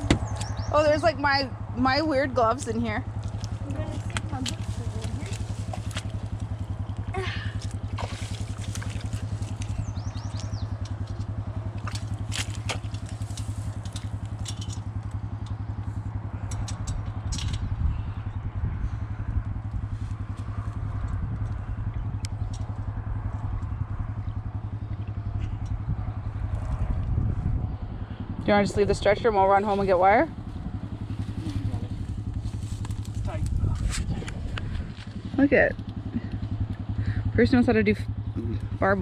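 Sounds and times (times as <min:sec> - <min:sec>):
utility vehicle engine idling: 0:00.0 - 0:39.0.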